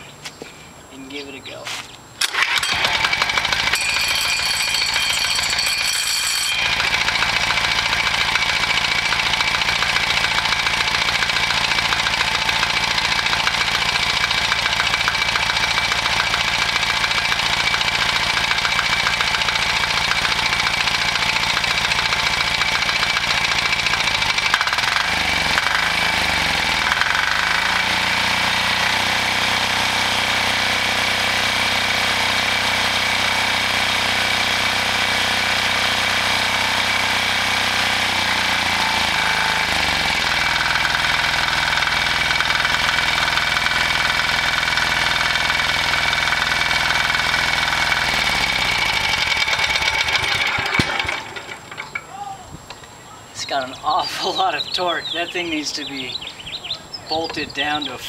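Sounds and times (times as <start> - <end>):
diesel engine running: 2.2 - 52.8.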